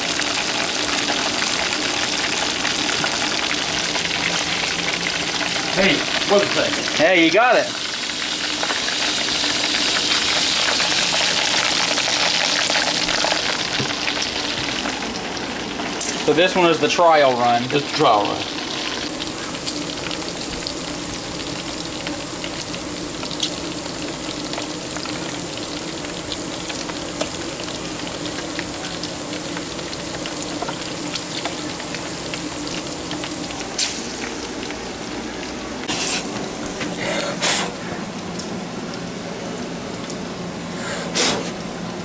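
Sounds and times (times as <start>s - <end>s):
deep-frying sizzle and crackle: 0.0s - 42.0s.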